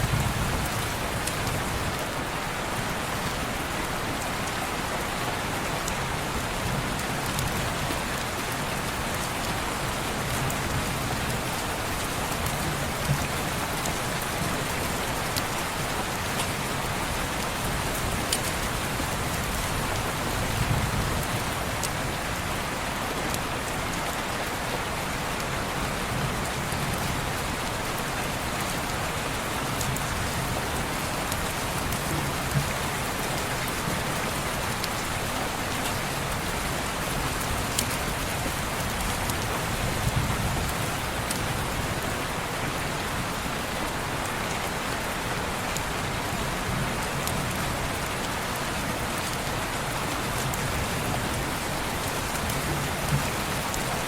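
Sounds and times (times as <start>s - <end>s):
rain on a window pane: 0.0s - 54.0s.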